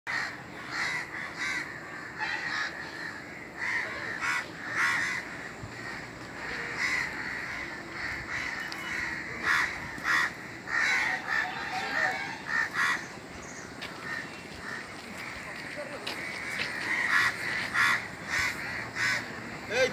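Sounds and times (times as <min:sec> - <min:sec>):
birds calling: 0:00.1 - 0:19.9.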